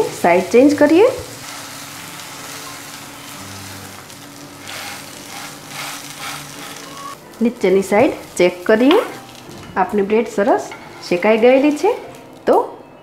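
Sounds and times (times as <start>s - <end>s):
bread frying in butter: 0.0s - 12.6s.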